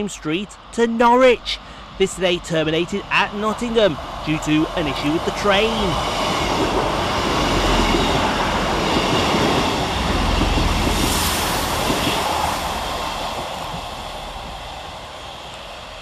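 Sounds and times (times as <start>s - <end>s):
diesel train passing: 0.0s - 16.0s.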